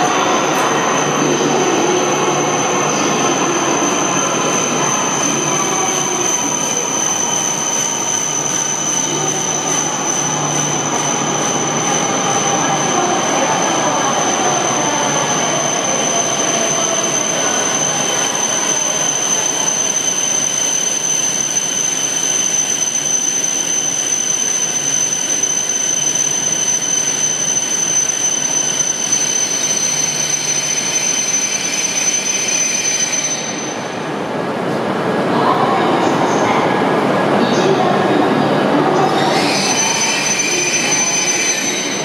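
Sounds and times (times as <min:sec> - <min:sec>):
rail noise: 0:00.0 - 0:42.0
train whine decelerating: 0:00.0 - 0:42.0.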